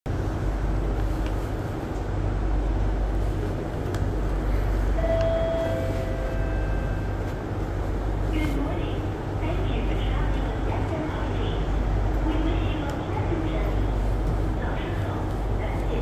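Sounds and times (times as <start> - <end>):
train interior hum and rumble: 0.0 - 16.0.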